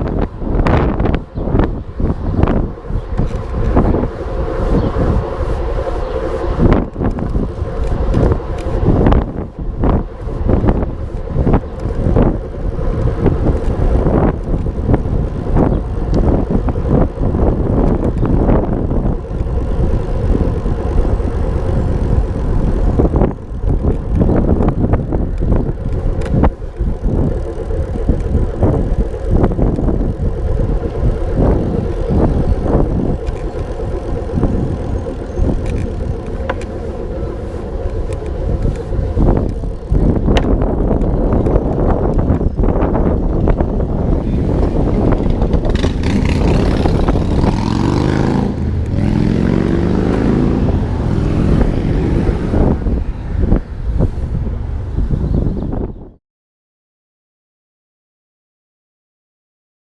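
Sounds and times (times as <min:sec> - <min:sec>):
bicycle road noise: 0:00.0 - 0:56.2
wind buffeting microphone: 0:00.0 - 0:56.2.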